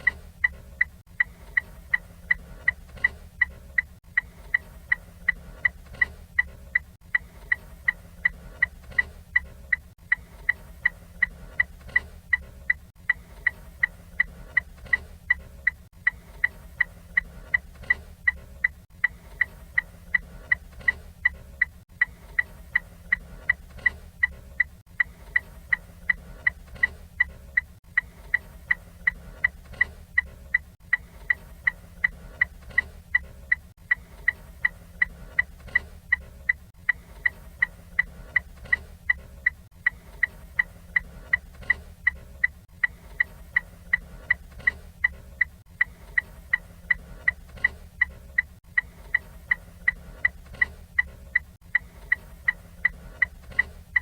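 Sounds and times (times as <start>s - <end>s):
turn signal ticking: 0.0s - 54.0s.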